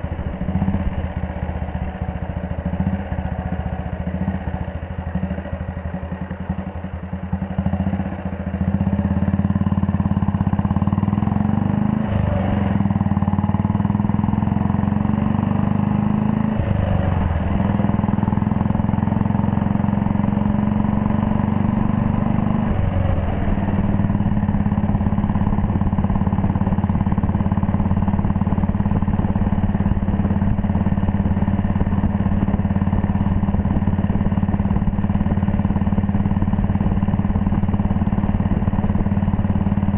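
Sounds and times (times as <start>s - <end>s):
single-cylinder engine pulling: 0.0s - 39.9s.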